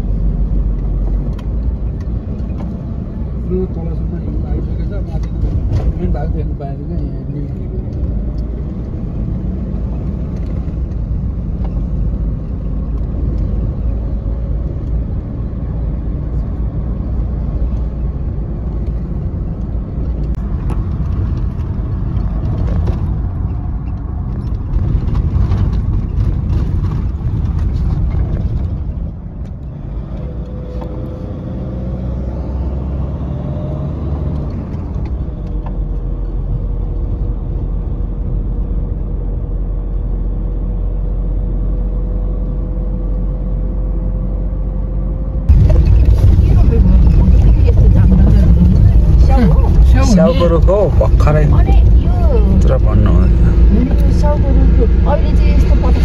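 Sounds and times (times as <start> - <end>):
engine and road rumble: 0.0 - 56.0.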